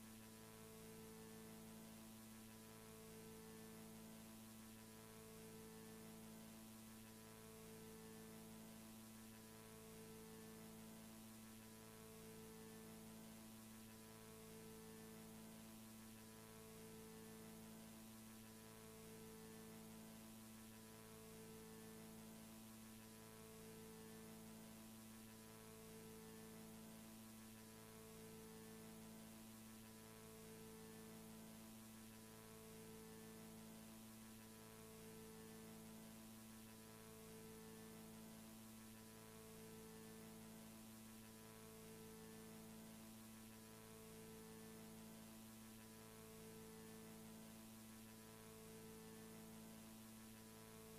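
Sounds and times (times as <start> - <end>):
faint electrical hum with hiss: 0.0 - 50.9.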